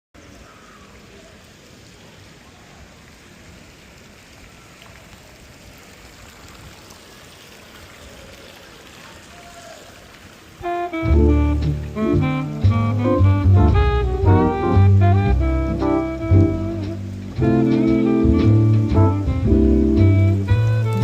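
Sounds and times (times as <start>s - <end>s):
steady rain falling: 0.2s - 21.0s.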